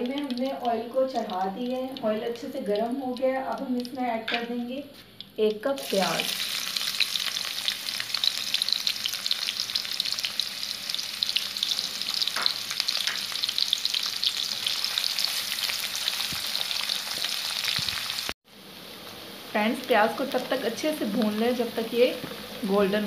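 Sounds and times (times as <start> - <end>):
onions sizzling in hot oil: 0.0 - 4.3, 5.0 - 23.0.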